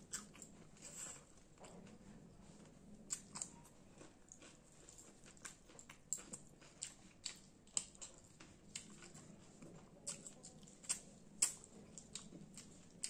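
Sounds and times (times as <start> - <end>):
chewing and lip-smacking: 0.1 - 13.0.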